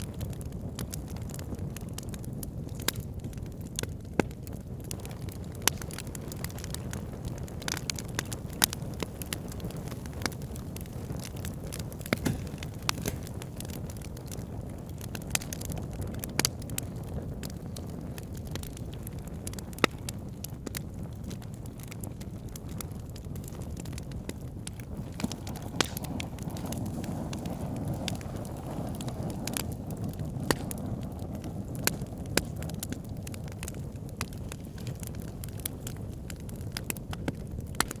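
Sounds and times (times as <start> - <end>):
fire flames rumbling: 0.0 - 38.0
logs crackling and popping: 0.0 - 38.0.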